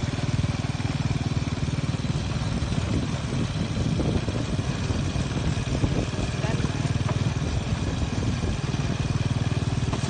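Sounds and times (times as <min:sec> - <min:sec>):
small motorcycle engine puttering: 0:00.0 - 0:10.0.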